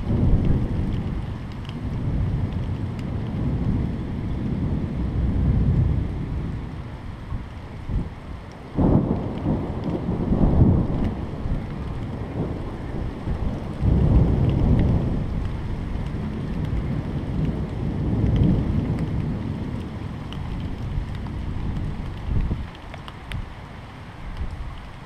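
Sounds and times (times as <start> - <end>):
thunder rumbling: 0.0 - 23.4
steady rain: 0.0 - 25.0.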